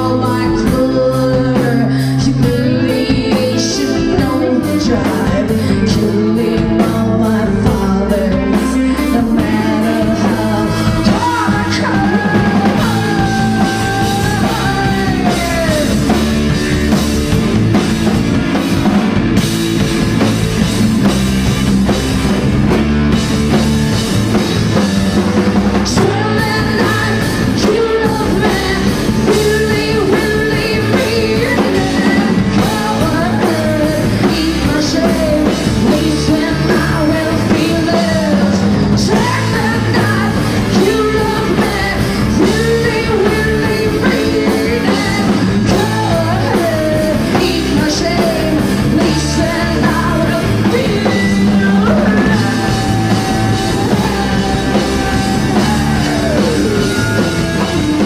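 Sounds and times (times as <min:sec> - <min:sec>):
woman singing: 0:00.0 - 0:16.8, 0:25.7 - 0:58.0
live rock band playing: 0:00.0 - 0:58.0.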